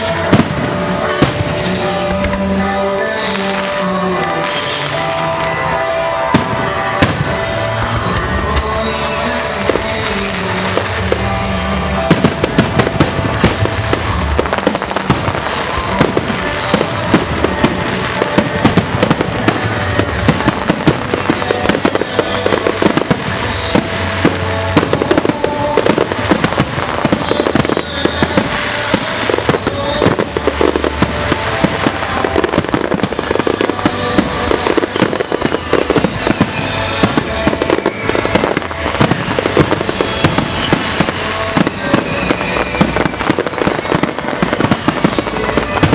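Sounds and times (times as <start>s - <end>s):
firework crackling: 0.0s - 45.9s
music: 0.0s - 45.9s.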